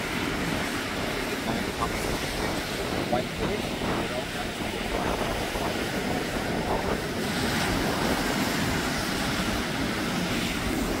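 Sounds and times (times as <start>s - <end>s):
surf breaking on rocky shore: 0.0s - 11.0s
wind buffeting microphone: 0.0s - 11.0s.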